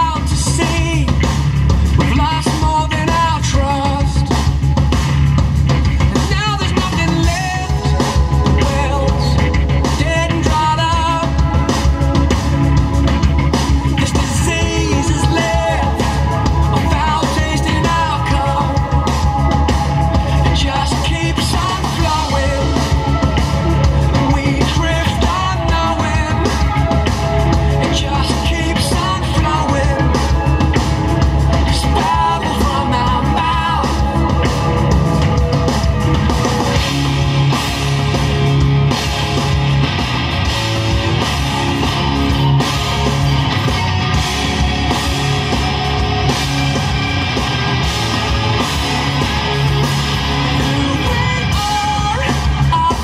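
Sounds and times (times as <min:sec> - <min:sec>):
rock music with singing: 0:00.0 - 0:53.0.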